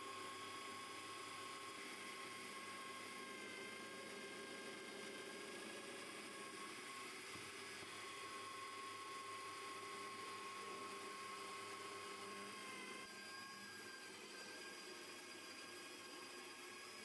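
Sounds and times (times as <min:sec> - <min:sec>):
drill press motor whining: 0:00.0 - 0:17.0.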